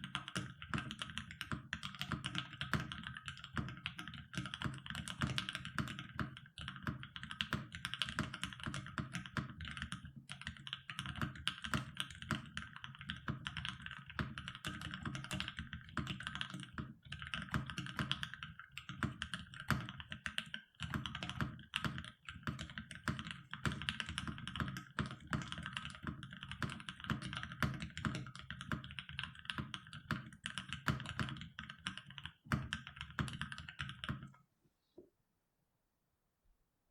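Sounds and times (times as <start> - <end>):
typing on mechanical keyboard: 0.0 - 34.3.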